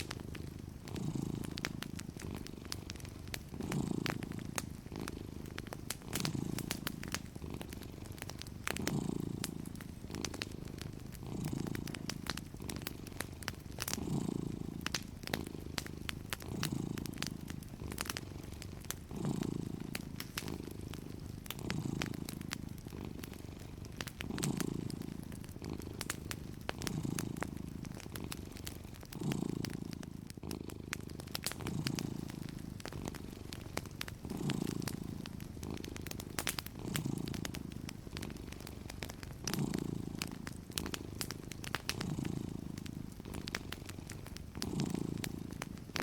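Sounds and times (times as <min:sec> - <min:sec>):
cat purring: 0:00.0 - 0:46.0
fireplace crackles: 0:00.0 - 0:46.0.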